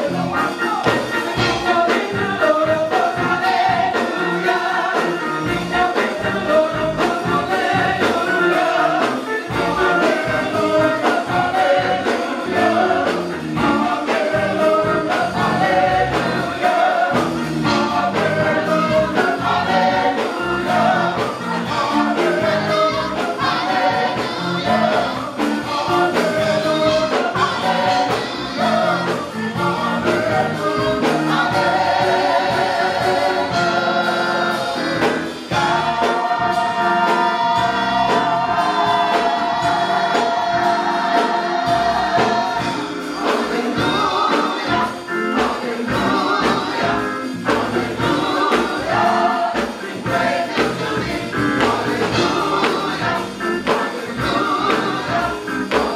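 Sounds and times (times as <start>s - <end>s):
gospel choir singing: 0.0s - 55.9s.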